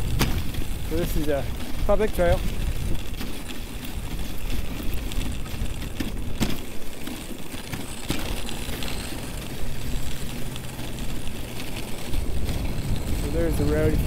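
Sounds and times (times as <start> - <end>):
sled rattling and clicking: 0.0 - 14.0
sled runners scraping on snow: 0.0 - 14.0.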